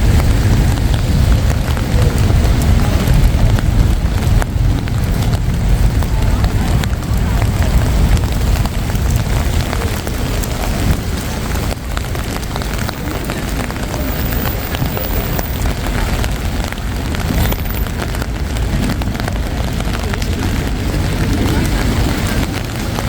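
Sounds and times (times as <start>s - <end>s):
continuous street hiss: 0.0s - 23.0s
heavy low rumble: 0.0s - 23.0s.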